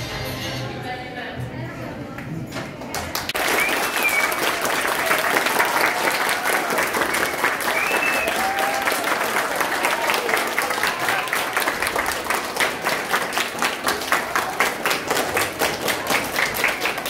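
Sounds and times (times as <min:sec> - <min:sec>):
crowd clapping: 0:02.9 - 0:17.0.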